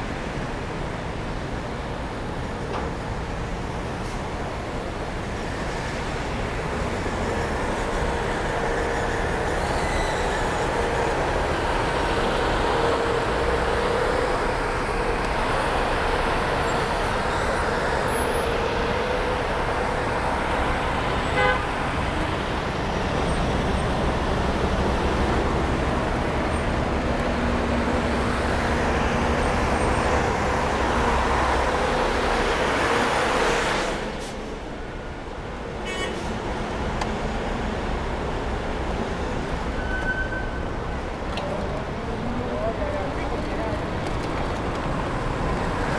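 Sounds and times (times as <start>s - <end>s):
street traffic passing: 0.0s - 45.9s.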